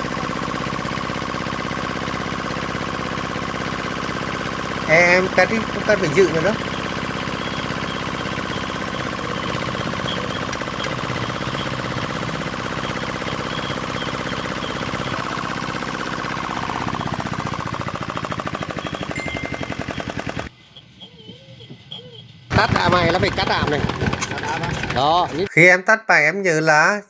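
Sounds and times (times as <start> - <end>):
diesel engine running: 0.0 - 20.5, 22.5 - 25.5.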